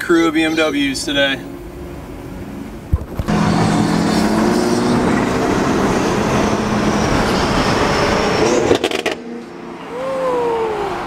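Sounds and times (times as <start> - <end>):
rumble of car engines: 0.0 - 11.0.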